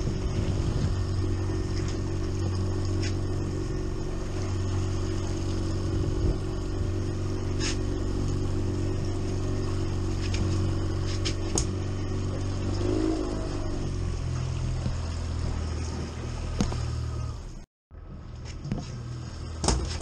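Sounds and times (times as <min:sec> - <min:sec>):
outboard motor humming: 0:00.0 - 0:20.0.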